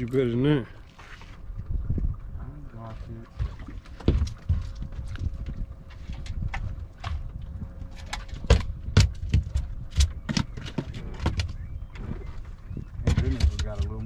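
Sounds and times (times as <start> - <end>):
steady low rumble: 1.4 - 14.0.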